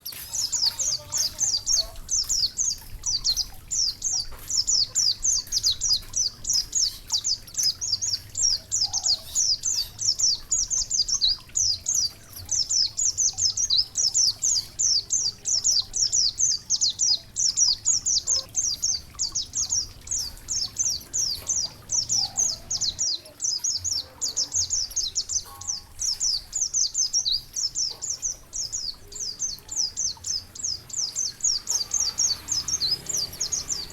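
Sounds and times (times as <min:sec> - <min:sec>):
songbird chirping rapidly: 0:00.0 - 0:33.9.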